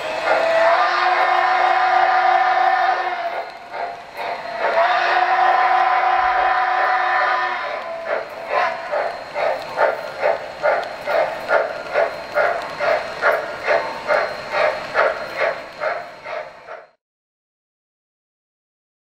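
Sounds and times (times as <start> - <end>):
electronic steam locomotive chuffing: 0.0 - 17.0.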